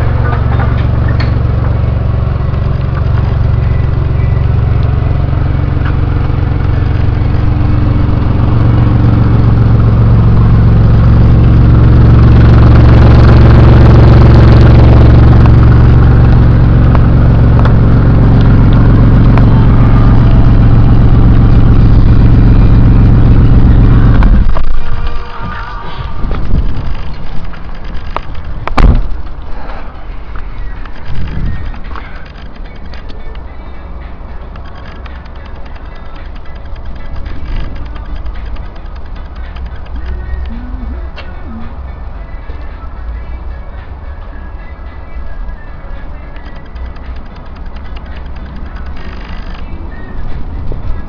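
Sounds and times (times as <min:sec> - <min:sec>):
car engine running: 0:00.0 - 0:51.0.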